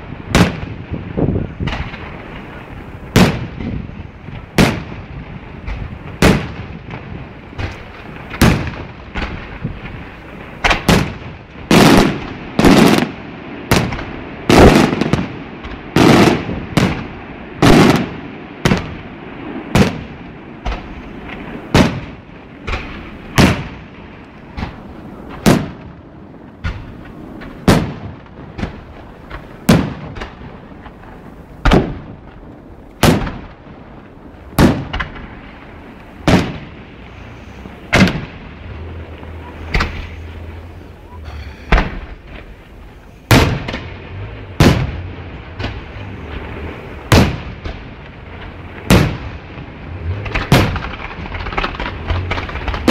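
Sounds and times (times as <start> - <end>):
fireworks bangs with echo: 0.0 - 52.9.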